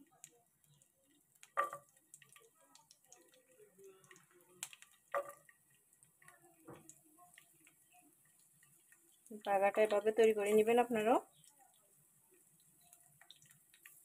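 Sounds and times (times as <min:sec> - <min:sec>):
oil crackling: 0:00.0 - 0:14.0
garlic plopping into oil: 0:00.1 - 0:11.6.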